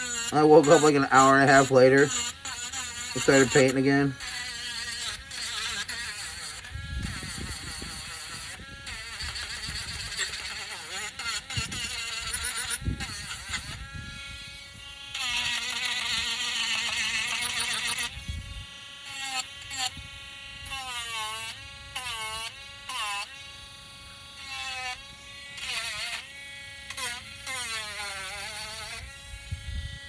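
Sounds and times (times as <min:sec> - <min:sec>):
electric sander buzzing: 0:00.0 - 0:30.0.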